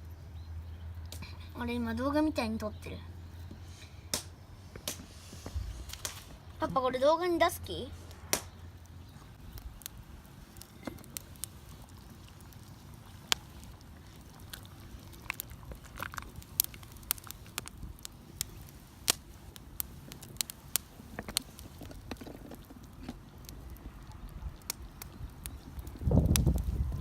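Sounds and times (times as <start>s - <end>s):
campfire crackling: 0.0s - 27.0s
fire snaps and pops: 1.0s - 1.4s, 4.1s - 6.7s, 7.7s - 27.0s.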